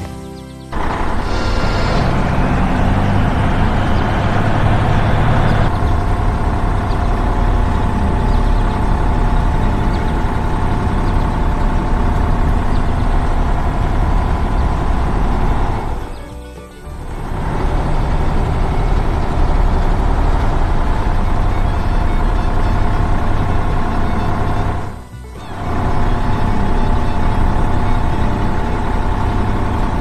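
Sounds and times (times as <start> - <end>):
heavy truck engine running: 0.0 - 30.0
hissing: 0.0 - 30.0.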